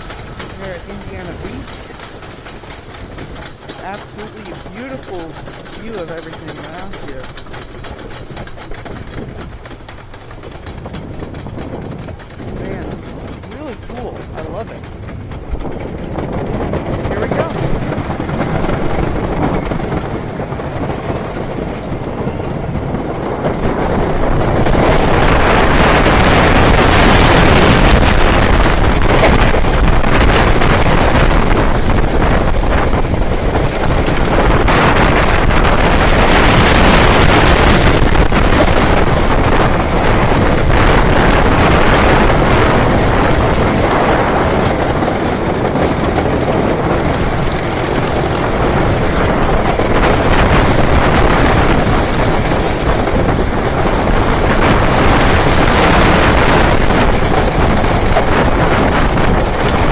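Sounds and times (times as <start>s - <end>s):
roller coaster rattling on track: 0.0s - 59.9s
wind noise on microphone: 0.0s - 59.9s.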